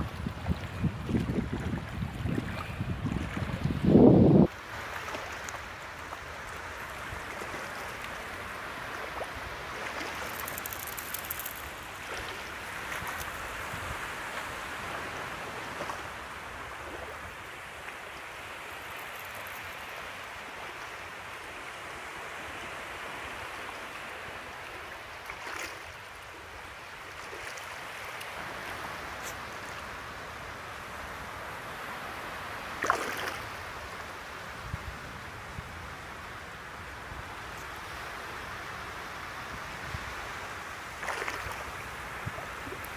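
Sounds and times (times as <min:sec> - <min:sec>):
waves washing onto beach: 0:00.0 - 0:42.9.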